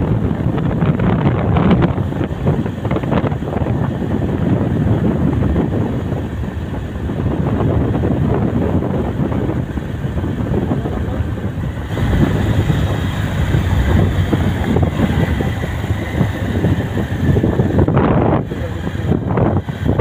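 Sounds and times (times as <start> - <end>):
motorcycle engine rumble: 0.0 - 20.0
tyres on road: 0.0 - 20.0
wind buffeting microphone: 0.0 - 20.0.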